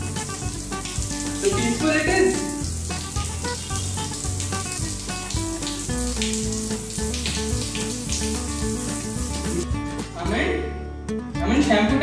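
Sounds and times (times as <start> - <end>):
shower spraying water: 0.0 - 10.2
background music: 0.0 - 12.0.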